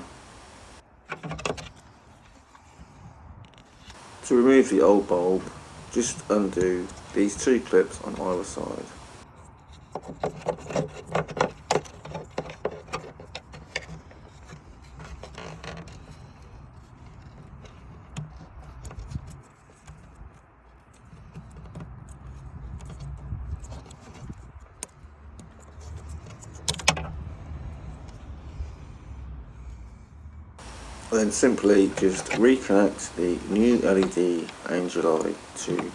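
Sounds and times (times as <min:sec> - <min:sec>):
rustling handling noise: 0:00.8 - 0:35.9.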